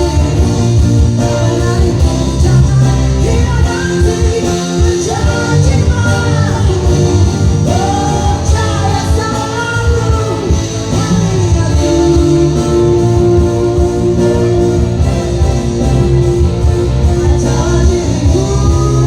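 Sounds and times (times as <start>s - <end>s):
band playing pop with guitar: 0.0s - 19.0s
person singing: 0.0s - 19.0s.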